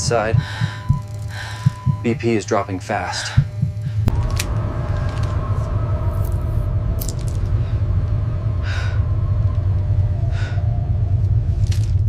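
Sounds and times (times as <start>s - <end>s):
low rumble with held tones: 0.0s - 12.0s.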